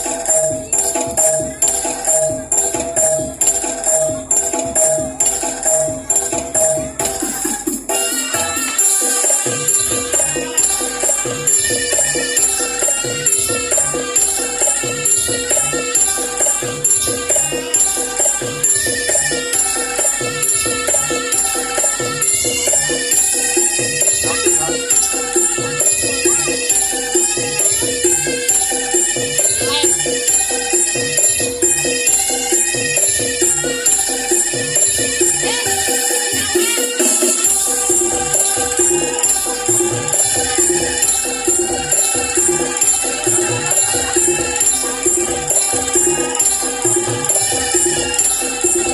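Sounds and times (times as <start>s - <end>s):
jingling percussion: 0.0s - 48.9s
music with fast steady beat: 0.0s - 48.9s.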